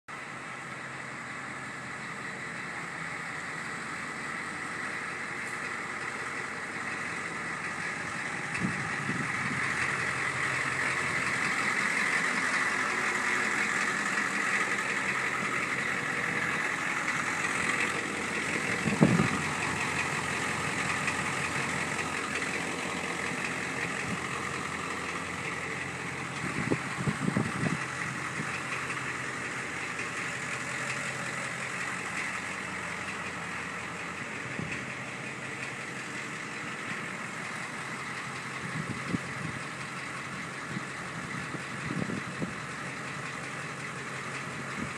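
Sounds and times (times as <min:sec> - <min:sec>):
diesel engine idling: 0:00.1 - 0:44.9.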